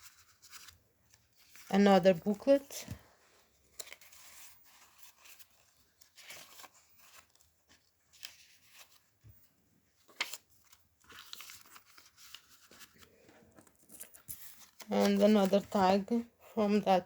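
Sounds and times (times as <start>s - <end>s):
paper rustling and crinkling: 0.0s - 16.5s.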